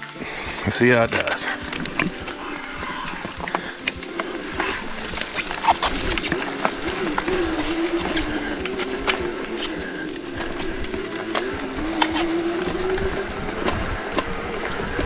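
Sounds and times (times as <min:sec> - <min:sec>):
bike clicks and rattles: 0:00.0 - 0:15.0
electric motor whining: 0:00.0 - 0:15.0.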